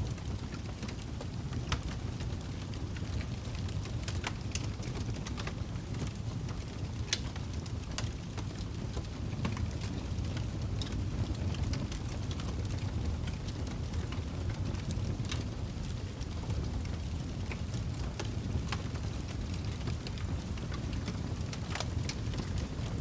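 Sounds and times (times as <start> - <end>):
fireplace fire crackling: 0.0 - 23.0.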